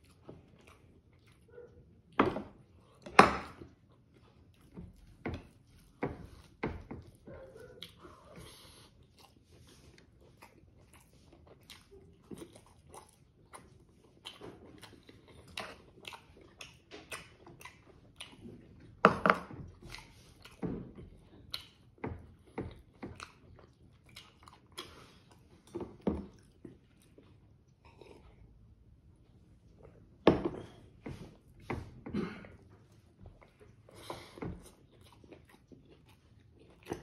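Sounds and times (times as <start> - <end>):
person chewing with mouth open: 0.0 - 37.0.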